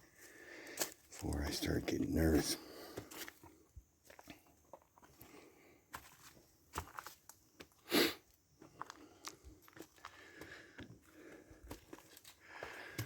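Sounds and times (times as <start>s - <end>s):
footsteps on rocky ground: 0.2s - 7.9s, 8.6s - 13.0s.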